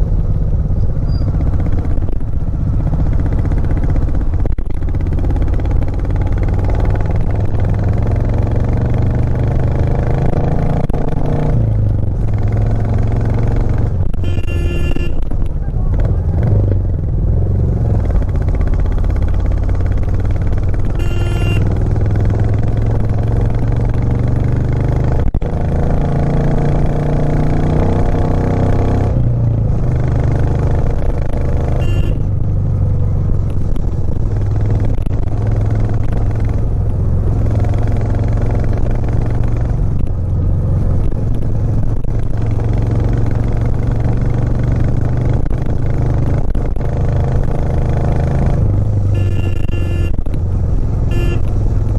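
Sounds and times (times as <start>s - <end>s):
motorcycle engine under load: 0.0s - 51.9s.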